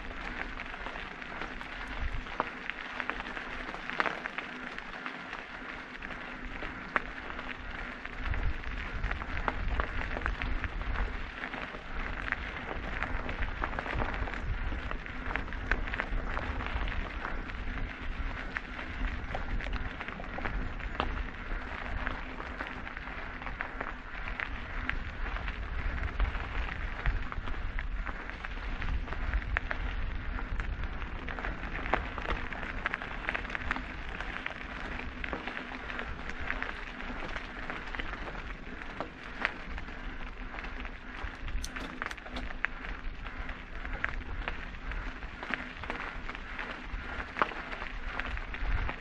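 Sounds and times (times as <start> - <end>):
wind on microphone: 0.0 - 3.8, 5.6 - 49.0
bike tyres on gravel: 0.0 - 49.0.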